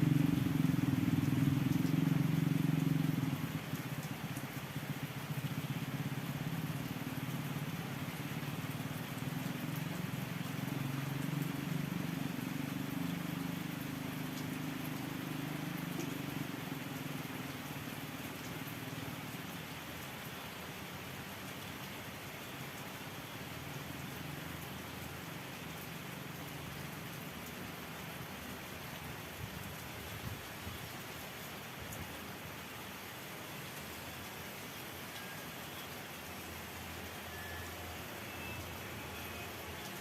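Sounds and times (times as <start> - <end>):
outdoor ambience hiss: 0.0 - 40.0.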